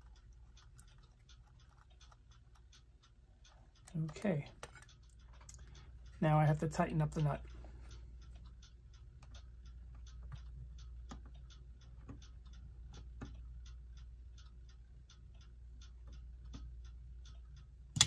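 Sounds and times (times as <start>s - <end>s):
faint light ticking clicks: 0.0s - 18.0s
low steady hum: 0.0s - 18.0s.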